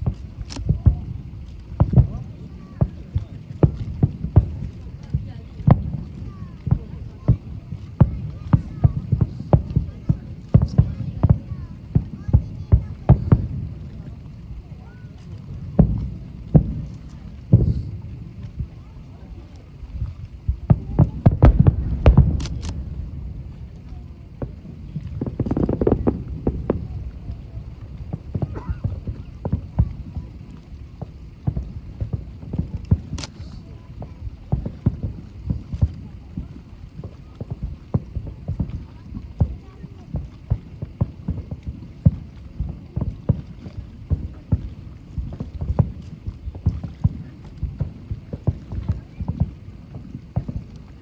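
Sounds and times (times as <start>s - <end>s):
fireworks booming and cracking: 0.0s - 51.0s.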